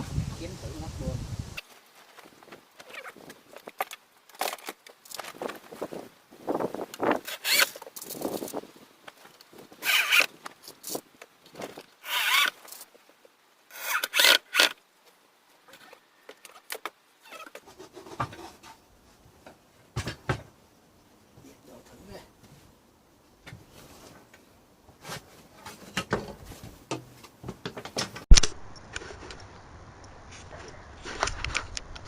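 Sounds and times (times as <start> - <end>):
rustling and scraping bursts: 0.0 - 20.3, 23.5 - 29.4.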